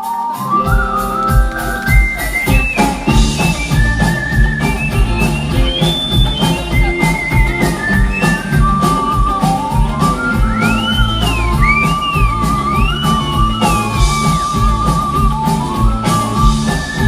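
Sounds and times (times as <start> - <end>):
rock band instrumental: 0.0 - 17.0
sliding lead melody: 0.0 - 17.0.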